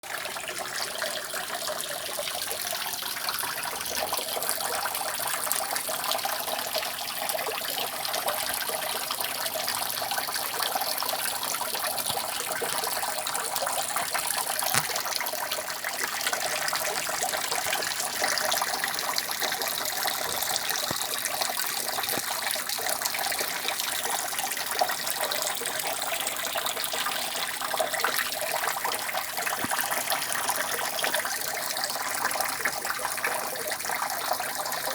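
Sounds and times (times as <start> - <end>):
rainwater dripping off roof: 0.1 - 34.9.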